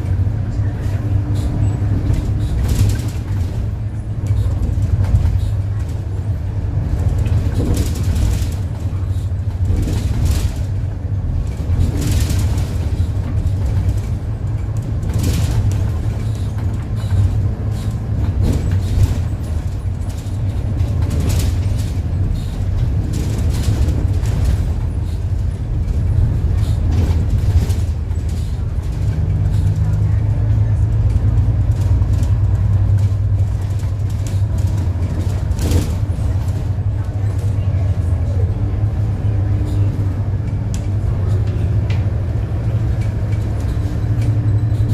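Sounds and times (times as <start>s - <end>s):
bus engine running: 0.0s - 44.9s
vehicle rattles and knocks: 0.0s - 44.9s.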